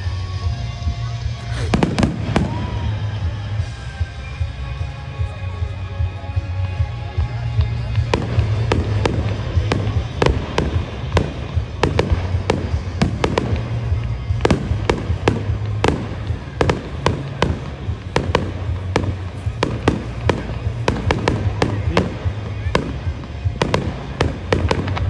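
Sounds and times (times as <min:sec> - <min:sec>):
fireworks bangs and cracks: 0:01.4 - 0:04.6, 0:06.3 - 0:25.0.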